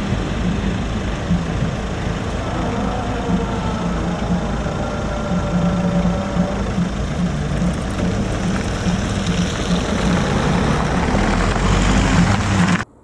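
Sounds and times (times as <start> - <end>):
car engine idling: 0.0 - 13.0
car pulling away: 0.0 - 13.0
tyres on slushy road: 0.0 - 13.0.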